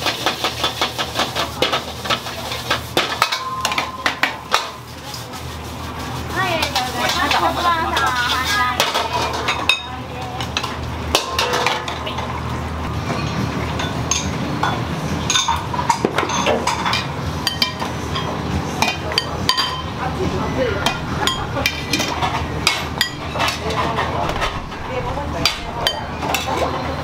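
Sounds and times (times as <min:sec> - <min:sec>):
low hum of kitchen equipment: 0:00.0 - 0:27.0
utensils and pans clinking: 0:00.0 - 0:27.0.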